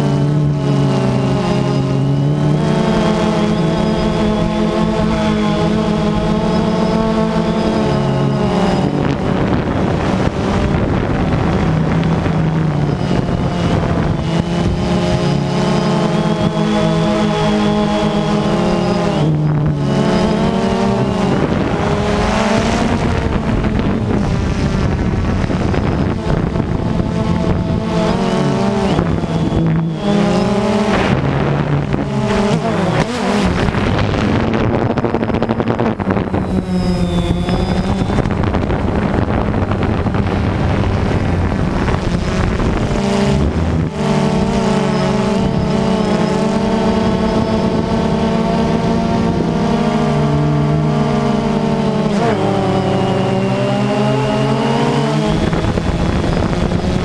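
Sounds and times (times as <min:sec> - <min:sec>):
drone propellers whining: 0:00.0 - 0:57.0.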